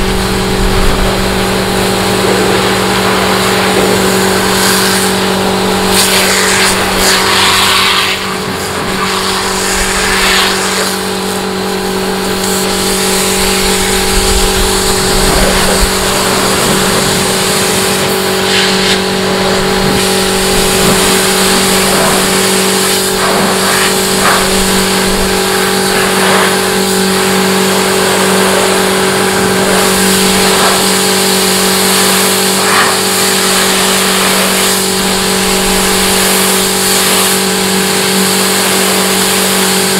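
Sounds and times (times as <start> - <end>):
rushing hiss: 0.0 - 39.7
motor humming: 0.0 - 39.9.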